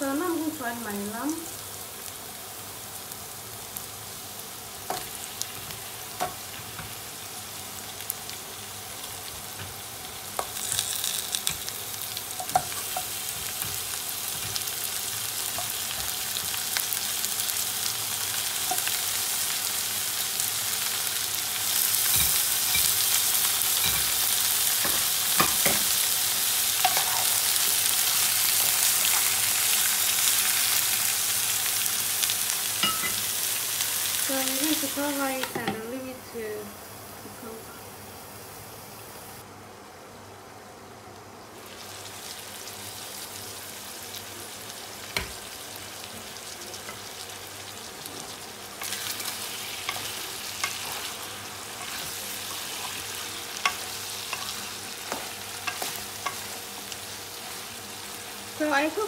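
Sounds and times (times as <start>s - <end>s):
food sizzling in oil: 0.0s - 39.4s, 41.5s - 59.0s.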